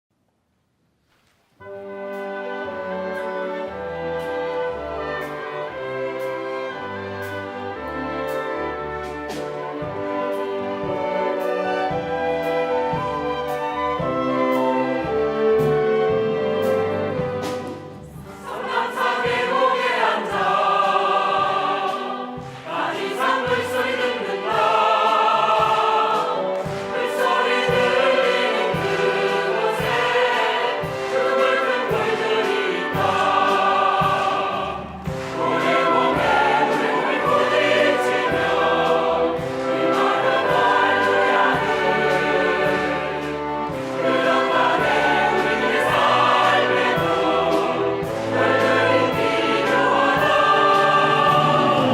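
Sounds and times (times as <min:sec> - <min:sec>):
instrumental accompaniment: 0:01.6 - 0:51.9
choir singing: 0:02.4 - 0:51.9.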